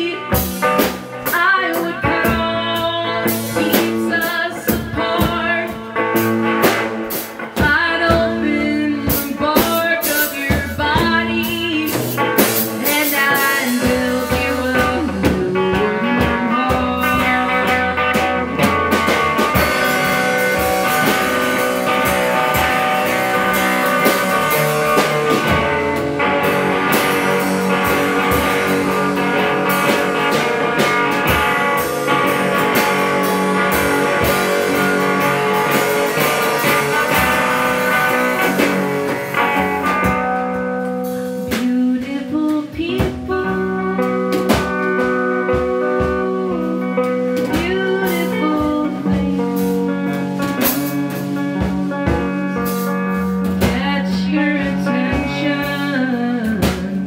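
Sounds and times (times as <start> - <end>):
drum kit beat: 0.0 - 57.0
guitars: 0.0 - 57.0.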